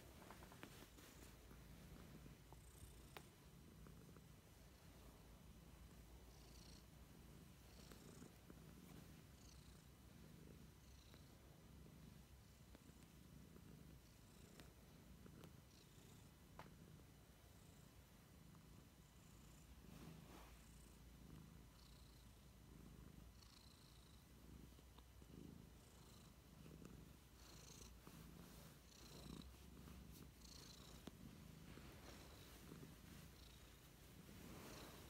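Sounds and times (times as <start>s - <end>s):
cat purring: 0.0s - 35.0s.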